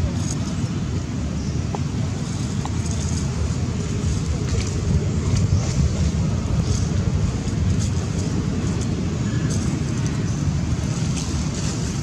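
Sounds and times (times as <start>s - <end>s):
low fluttering rumble: 0.0s - 12.0s.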